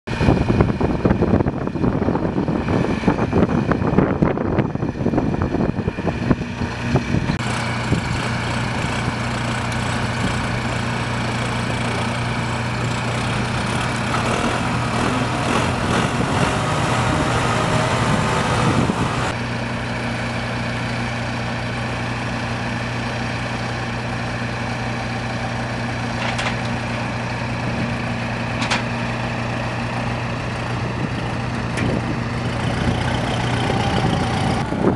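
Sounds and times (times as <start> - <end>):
tractor diesel engines running: 0.1 - 34.9.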